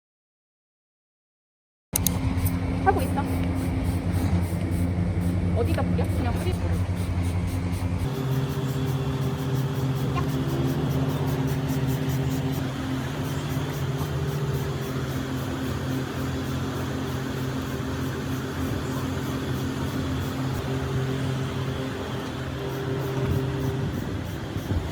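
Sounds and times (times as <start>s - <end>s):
pump humming: 2.0s - 24.9s
water spray hissing: 2.9s - 24.9s.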